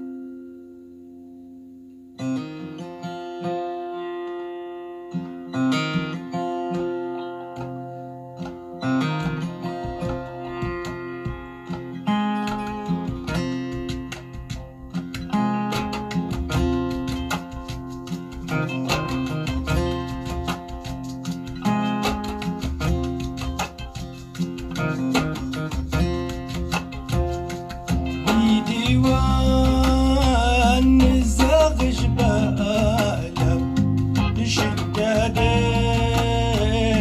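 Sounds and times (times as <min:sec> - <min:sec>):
acoustic guitar music: 0:00.0 - 0:37.0.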